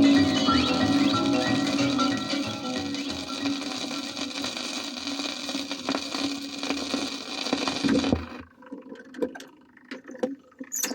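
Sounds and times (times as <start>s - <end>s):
record surface hiss: 0.0s - 9.0s.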